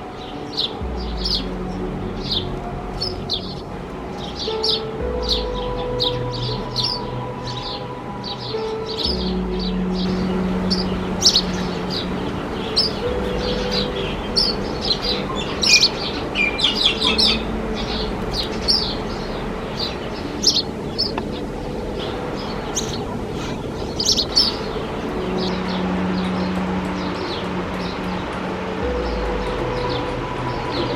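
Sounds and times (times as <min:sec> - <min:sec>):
sparrow chirping: 0:00.2 - 0:28.3.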